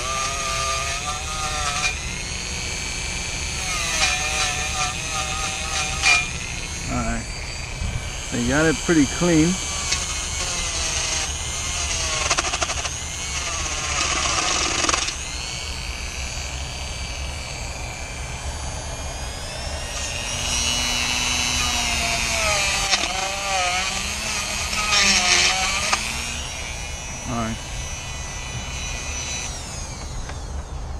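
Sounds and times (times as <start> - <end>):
power tool whining on metal: 0.0 - 30.9.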